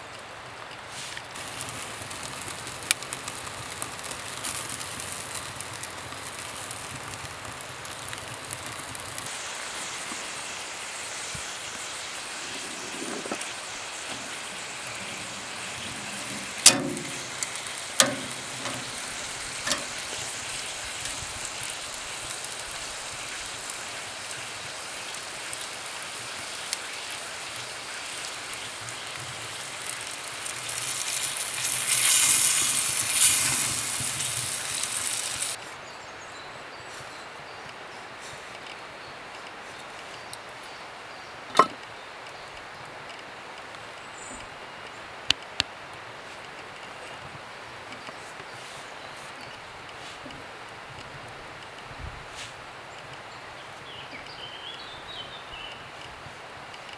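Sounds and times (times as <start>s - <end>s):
food sizzling over open fire: 0.0s - 56.9s.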